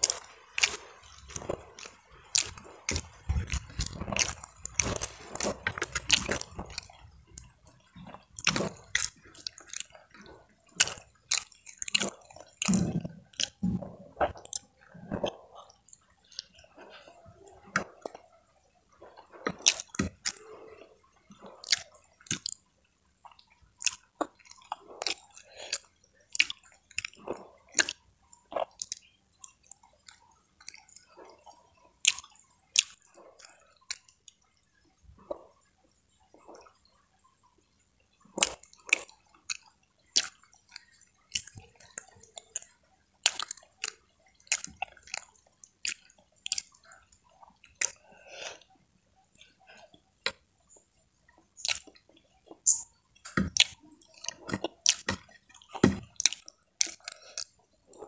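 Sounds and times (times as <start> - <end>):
wet mouth clicks: 0.0 - 16.5, 19.4 - 20.5, 21.4 - 22.6, 23.3 - 34.5, 38.4 - 48.7, 51.6 - 58.0
close-up chewing: 0.0 - 58.0.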